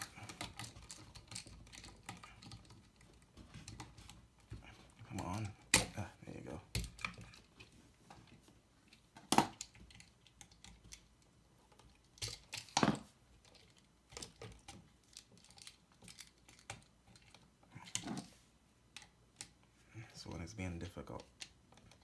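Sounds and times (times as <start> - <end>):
clicks and taps of tool on wires: 0.0 - 6.1, 6.7 - 12.8, 13.4 - 18.2, 18.9 - 19.6, 21.2 - 22.0.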